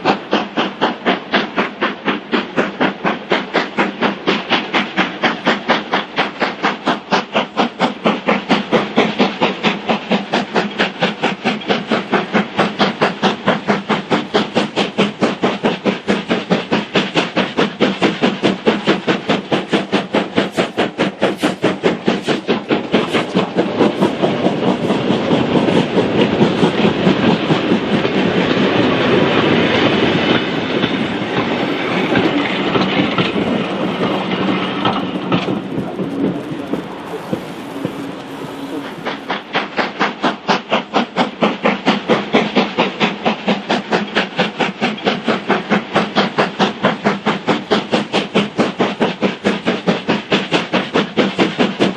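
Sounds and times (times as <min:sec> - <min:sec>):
steam locomotive chuffing: 0:00.0 - 0:51.9.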